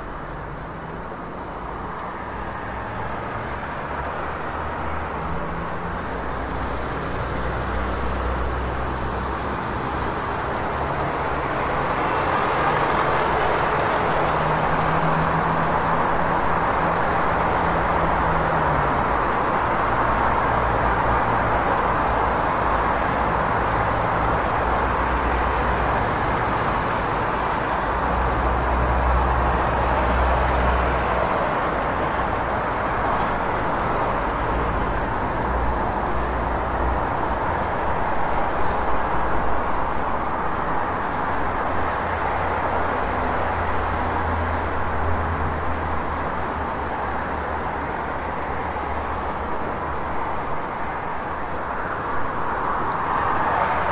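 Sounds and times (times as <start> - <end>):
city street traffic: 0.0 - 53.9.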